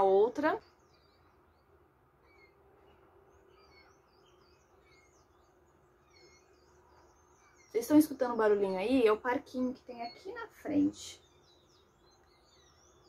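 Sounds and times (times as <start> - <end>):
faint bird chirps: 0.0 - 13.0
faint steady hum: 0.0 - 13.0.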